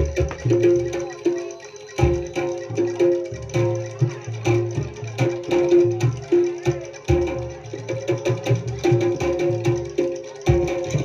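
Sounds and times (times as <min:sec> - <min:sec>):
hand drums: 0:00.0 - 0:11.0
held pitched instrument tones: 0:00.0 - 0:11.0.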